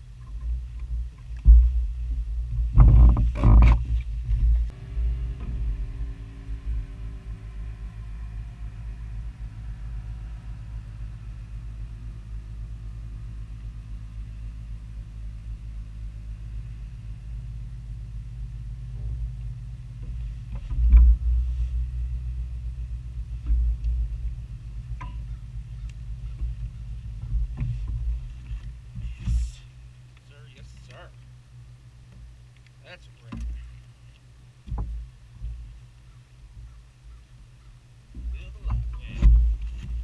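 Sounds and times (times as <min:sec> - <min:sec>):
electric trolling motor hum: 0:00.0 - 0:40.0
faint whining tones: 0:00.0 - 0:40.0.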